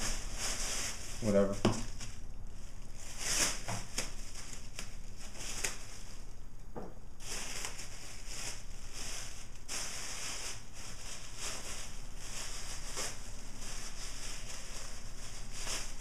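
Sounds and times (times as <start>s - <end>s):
plastic bag crinkling: 0.0s - 6.4s, 7.2s - 16.0s.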